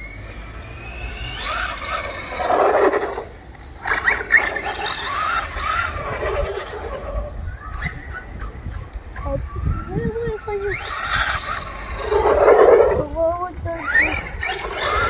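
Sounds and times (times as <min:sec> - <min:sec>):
electric motor whining: 0:00.0 - 0:15.0
tyres rasping over ground: 0:00.0 - 0:15.0.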